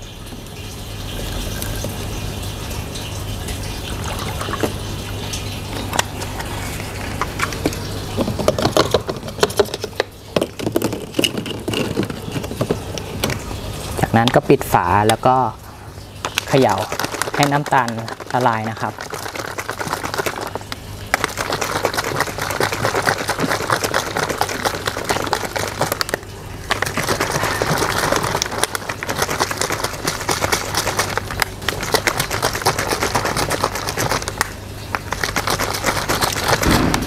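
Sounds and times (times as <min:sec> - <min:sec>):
liquid sloshing in shaken bottle: 0:01.0 - 0:15.3, 0:16.0 - 0:37.0.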